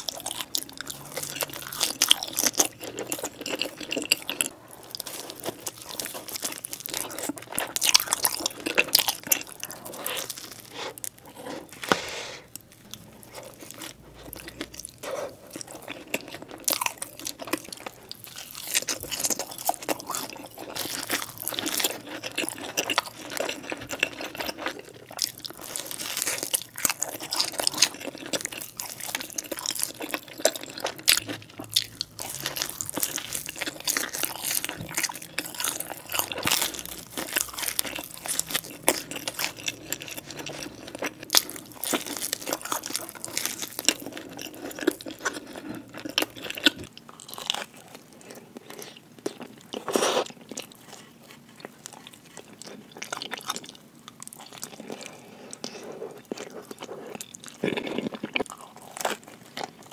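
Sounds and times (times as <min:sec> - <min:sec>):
chewing crunchy pizza: 0:00.0 - 0:59.9.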